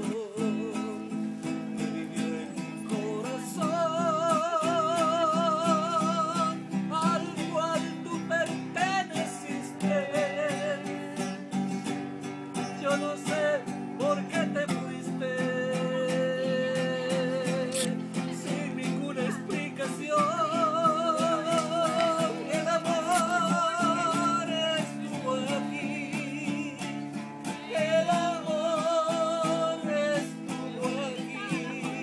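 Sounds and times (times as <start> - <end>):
acoustic guitar: 0.0 - 32.0
man singing with vibrato: 0.0 - 32.0.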